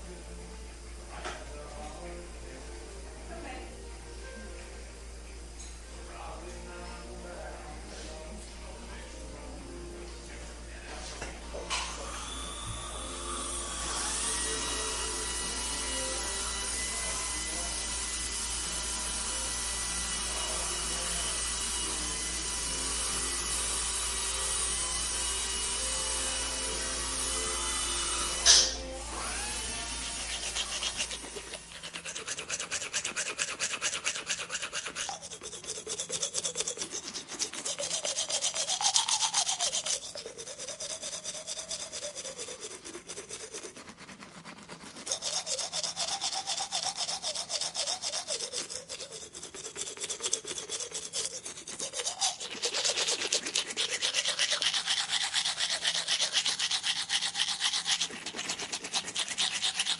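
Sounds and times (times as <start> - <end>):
dental instrument scraping buzz: 11.0 - 59.9.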